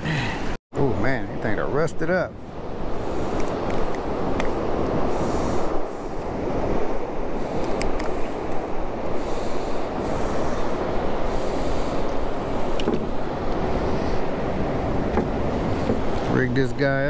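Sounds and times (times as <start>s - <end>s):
wind and surf on microphone: 0.0s - 17.0s.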